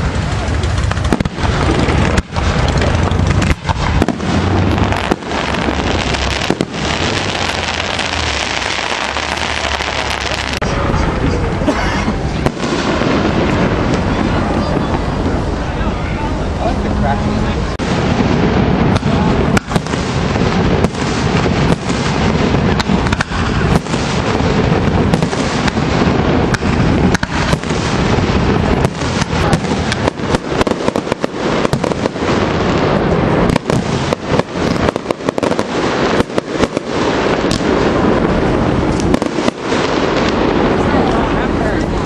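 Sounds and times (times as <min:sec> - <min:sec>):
fireworks bangs and crackling pops: 0:00.0 - 0:16.1, 0:17.0 - 0:42.0.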